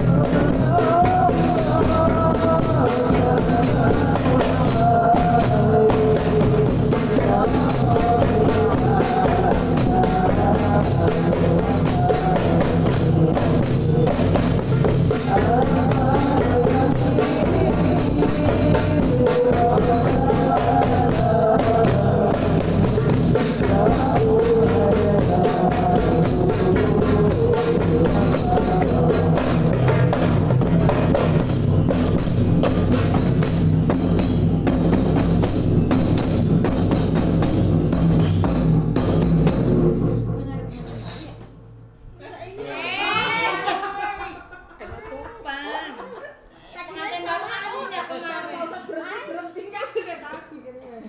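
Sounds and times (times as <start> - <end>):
hand drums fast rhythm: 0.0 - 40.9.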